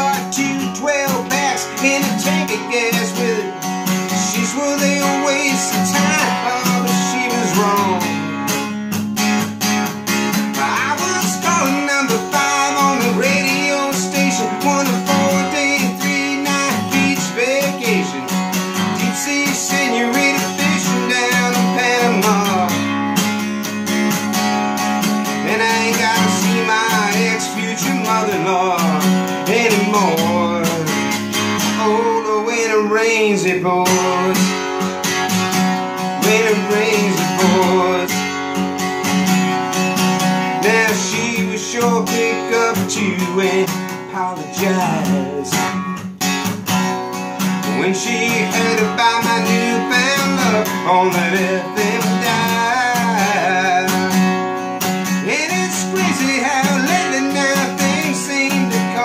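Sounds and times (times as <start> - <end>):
man singing: 0.0 - 8.5, 10.3 - 23.1, 25.0 - 38.7, 40.1 - 46.0, 47.4 - 59.0
acoustic guitar strumming: 0.0 - 59.0.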